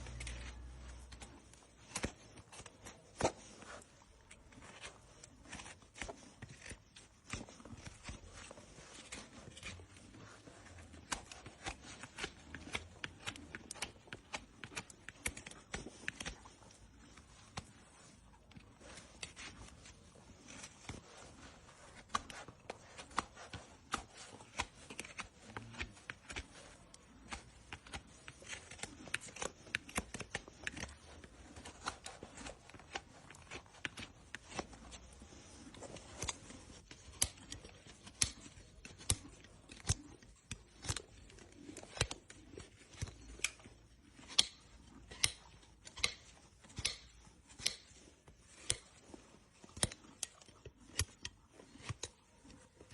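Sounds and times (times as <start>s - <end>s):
tools scraping horse hoof: 0.0s - 52.9s.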